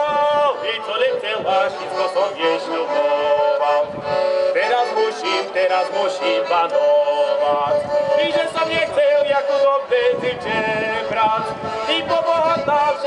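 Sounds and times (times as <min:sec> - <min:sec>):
accordion: 0:00.0 - 0:13.0
folk violin: 0:00.0 - 0:13.0.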